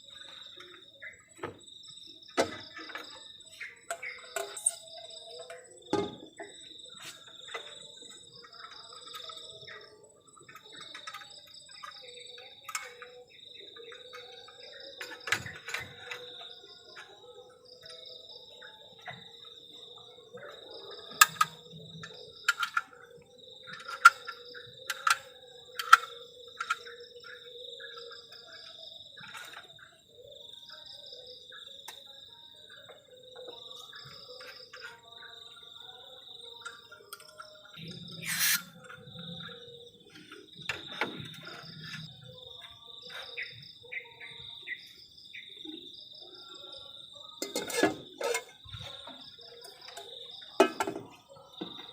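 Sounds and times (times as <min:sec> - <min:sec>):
crickets chirping: 0:00.0 - 0:51.9.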